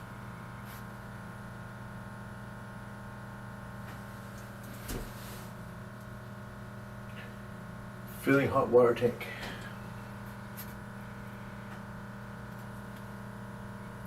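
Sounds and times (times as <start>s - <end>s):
water pump humming: 0.0s - 14.0s.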